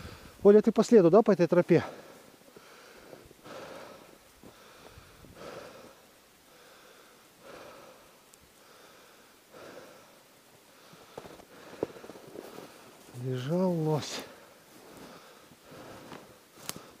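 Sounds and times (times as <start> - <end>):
person breathing hard: 0.0 - 0.4, 1.8 - 13.0, 14.2 - 17.0.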